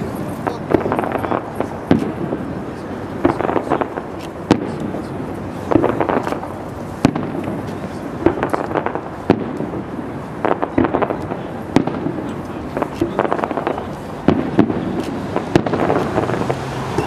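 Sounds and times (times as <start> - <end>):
firework crackling: 0.0 - 17.0
firework shells bursting: 0.0 - 17.0.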